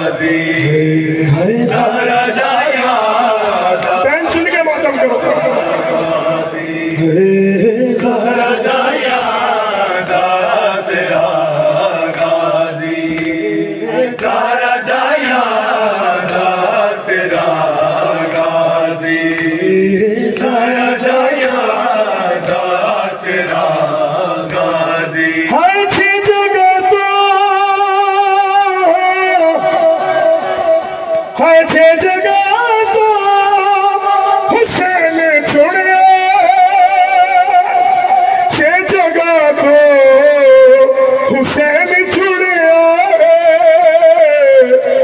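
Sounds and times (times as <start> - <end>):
man chanting through microphone: 0.0 - 45.0.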